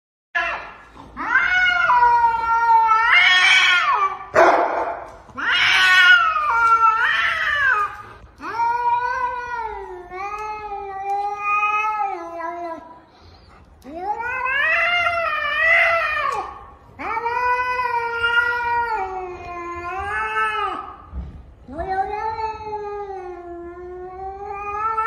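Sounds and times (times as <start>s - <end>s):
cats yowling: 0.4s - 4.3s, 5.3s - 12.9s, 13.8s - 21.1s, 21.7s - 25.0s.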